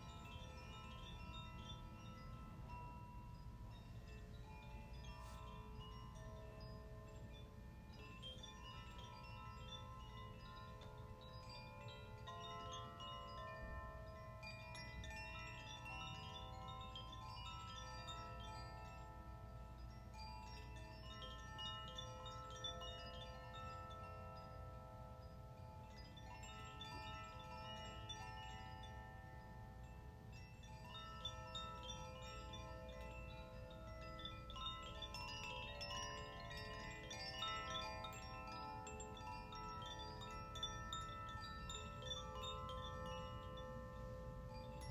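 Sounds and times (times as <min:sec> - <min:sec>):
chimes ringing: 0:00.0 - 0:44.9.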